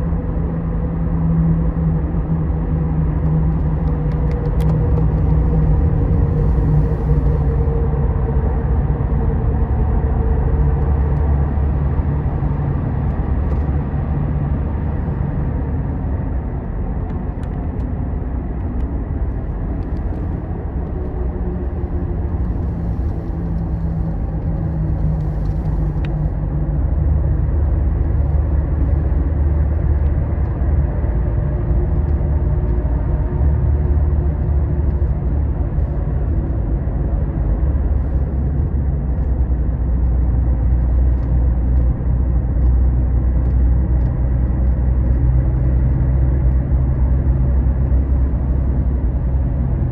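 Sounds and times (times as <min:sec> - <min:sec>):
coach engine and road rumble: 0:00.0 - 0:49.9.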